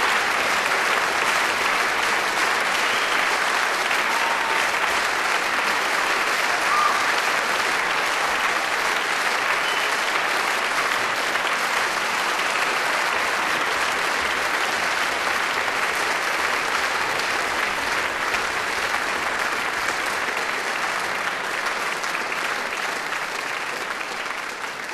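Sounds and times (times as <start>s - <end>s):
audience applauding: 0.0s - 24.9s.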